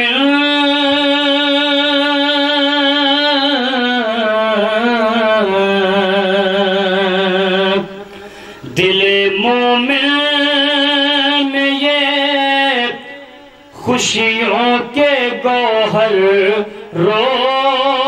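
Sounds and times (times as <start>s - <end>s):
man singing a long note: 0.0s - 18.0s.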